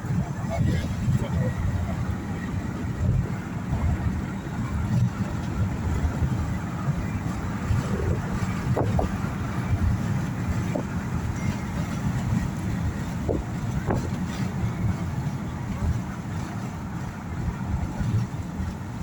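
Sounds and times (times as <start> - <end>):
road and engine rumble: 0.0 - 19.0
wind noise: 0.0 - 19.0.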